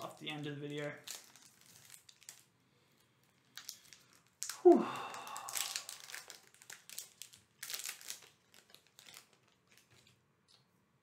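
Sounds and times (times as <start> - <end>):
foil wrapper crinkling: 0.0 - 2.5, 3.2 - 10.6.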